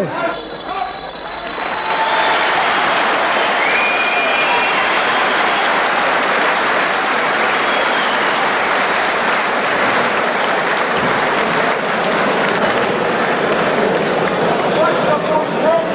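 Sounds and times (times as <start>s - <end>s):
crowd cheering: 0.0s - 15.9s
crowd clapping: 1.3s - 15.8s.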